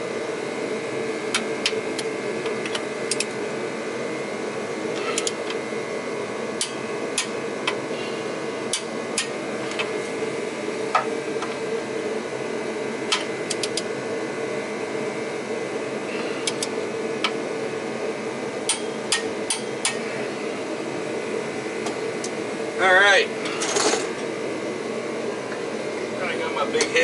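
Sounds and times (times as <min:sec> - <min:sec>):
heater running hum: 0:00.0 - 0:27.0.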